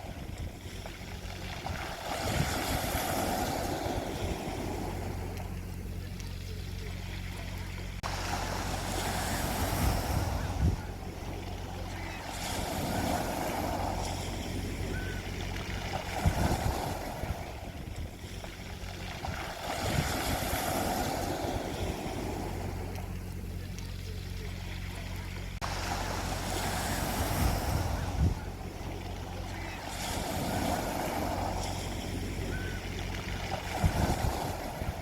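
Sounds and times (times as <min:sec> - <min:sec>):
low steady hum: 0:00.0 - 0:35.0
sea waves washing onto beach: 0:00.0 - 0:35.0.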